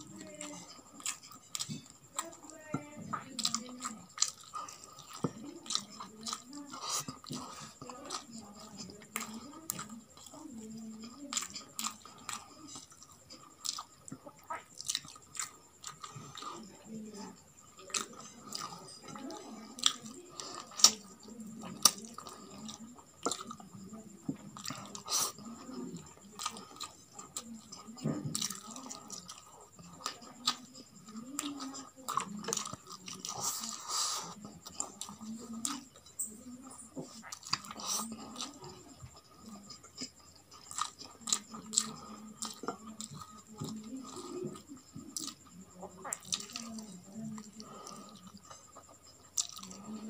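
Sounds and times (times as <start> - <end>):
chewing food: 0.0 - 50.0.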